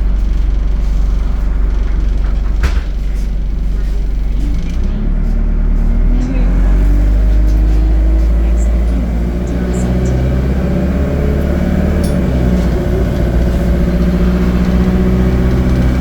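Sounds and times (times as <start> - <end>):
bus engine and gearbox: 0.0 - 16.0.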